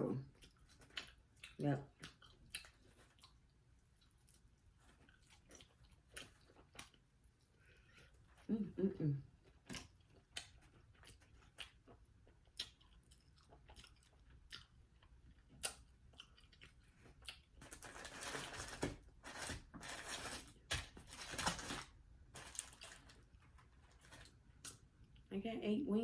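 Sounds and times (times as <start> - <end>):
chewing and crunching: 0.2 - 8.5, 9.2 - 25.3.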